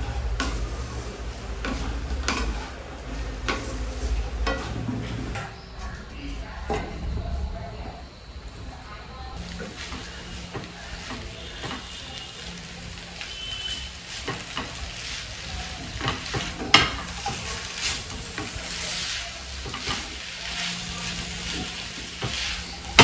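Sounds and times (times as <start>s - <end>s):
spatula scraping and knocking pan: 0.0s - 8.0s, 9.3s - 23.0s
noodles sizzling in a pan: 0.0s - 23.0s.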